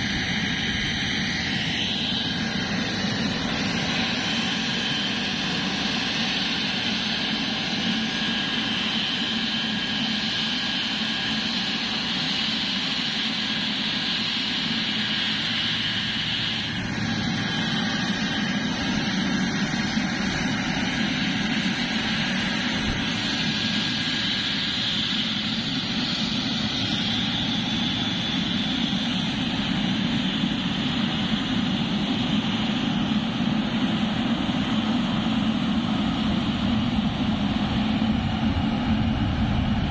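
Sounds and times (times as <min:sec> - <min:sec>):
high engine whine: 0:00.0 - 0:39.9
jet engines running: 0:00.0 - 0:39.9.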